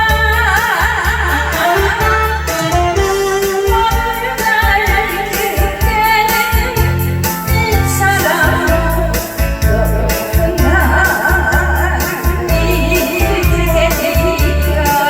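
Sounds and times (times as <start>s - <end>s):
person singing: 0.0s - 15.0s
pop backing track with beat: 0.0s - 15.0s.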